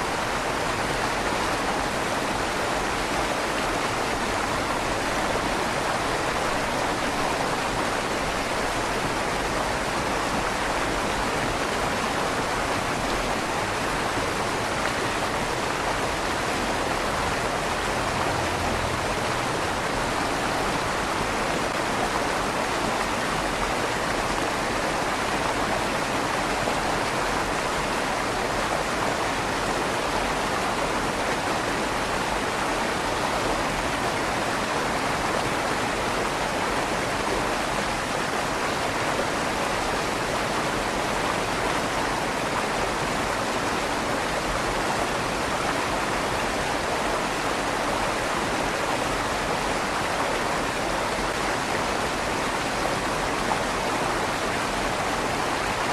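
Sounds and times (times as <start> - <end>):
river water rushing under bridge: 0.0 - 55.9.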